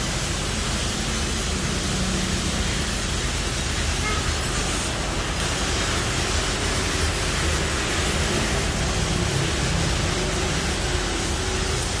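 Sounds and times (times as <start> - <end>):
laser cutting jet hiss: 0.0 - 12.0.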